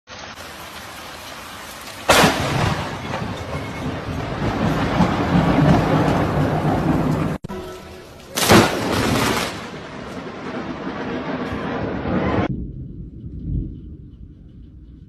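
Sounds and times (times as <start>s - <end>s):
rain hissing: 0.1s - 12.5s
lightning crack: 0.3s - 7.4s, 8.0s - 13.7s
thunder rumbling: 0.3s - 15.0s.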